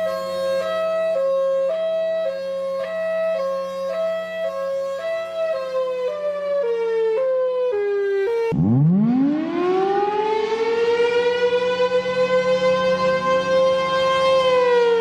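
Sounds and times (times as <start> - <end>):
two-tone warning siren: 0.0 - 15.0.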